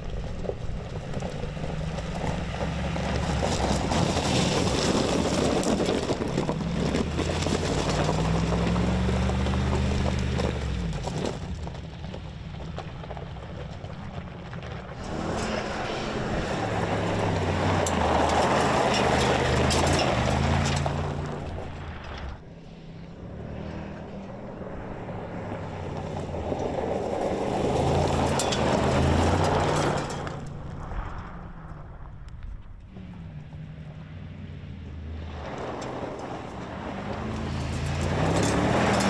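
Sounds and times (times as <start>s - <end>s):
tyres on loose gravel: 0.0s - 39.0s
engine revving: 1.2s - 11.4s, 14.8s - 30.7s, 32.8s - 39.0s.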